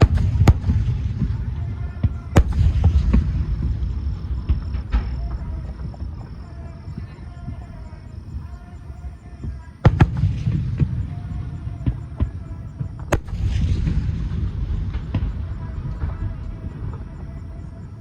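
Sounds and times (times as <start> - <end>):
sharp fireworks bangs: 0.0 - 18.0.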